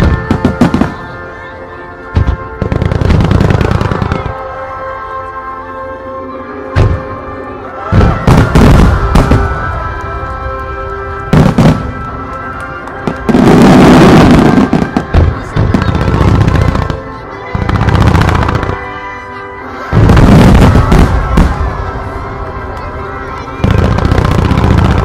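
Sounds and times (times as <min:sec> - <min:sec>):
fireworks booming and crackling: 0:00.0 - 0:01.3, 0:02.1 - 0:04.5, 0:06.8 - 0:07.1, 0:07.9 - 0:19.0, 0:19.8 - 0:25.0
steady music: 0:00.0 - 0:25.0.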